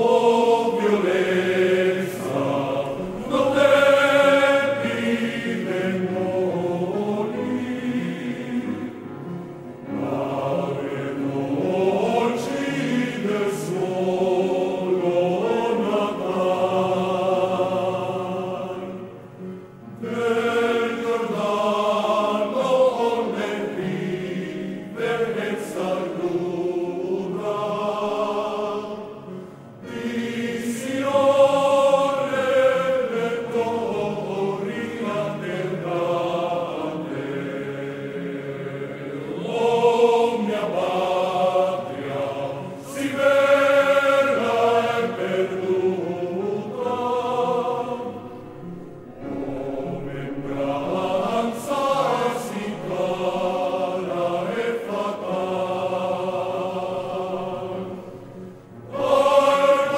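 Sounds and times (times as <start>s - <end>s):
men's choir singing: 0.0s - 59.9s.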